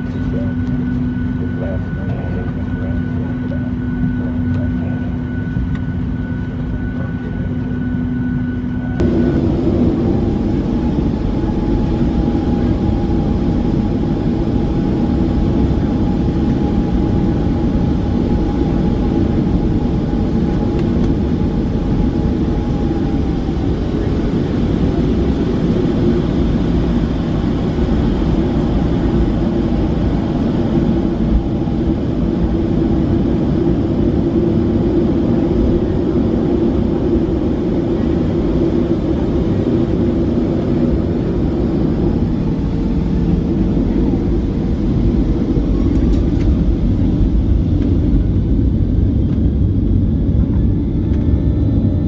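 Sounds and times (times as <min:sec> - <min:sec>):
airplane cabin hum: 0:00.0 - 0:52.0
jet engine rumble and whine: 0:00.0 - 0:52.0.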